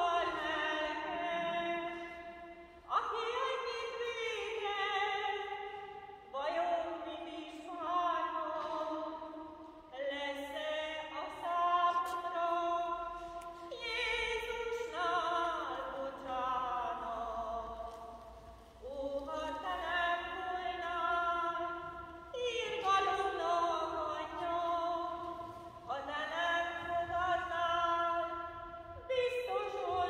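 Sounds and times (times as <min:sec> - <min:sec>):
person singing a hymn in a church: 0:00.0 - 0:30.0.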